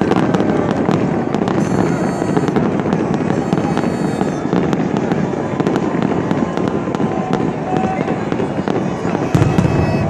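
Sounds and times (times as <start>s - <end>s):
firework whistles: 0.0s - 10.0s
fireworks crackling: 0.0s - 10.0s
steady rush of noise: 0.0s - 10.0s.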